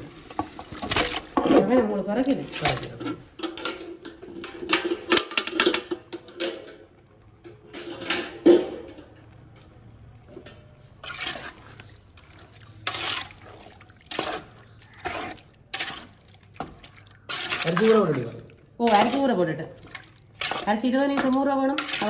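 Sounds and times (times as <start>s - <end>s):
wet squelching and scraping: 0.0s - 22.0s.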